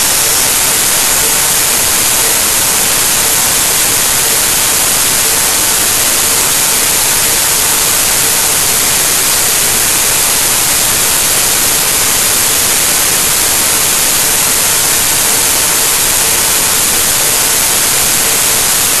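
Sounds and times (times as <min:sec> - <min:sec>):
loud static hiss: 0:00.0 - 0:19.0.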